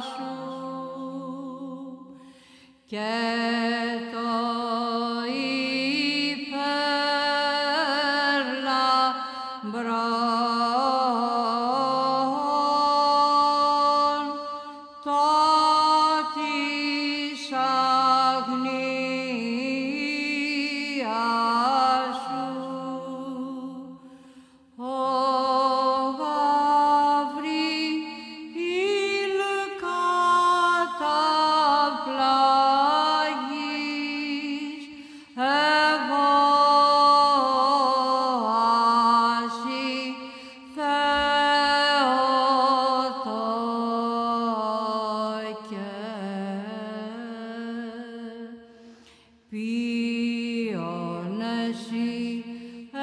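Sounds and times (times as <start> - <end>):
person singing chant: 0.0 - 2.2, 2.8 - 53.0.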